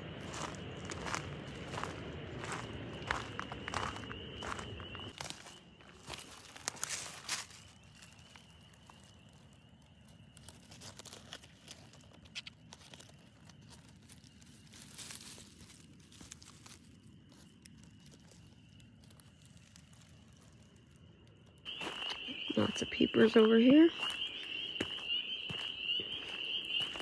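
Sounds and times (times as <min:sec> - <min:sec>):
frogs trilling: 0:00.0 - 0:27.0
dry pine cone crinkling: 0:00.2 - 0:22.6.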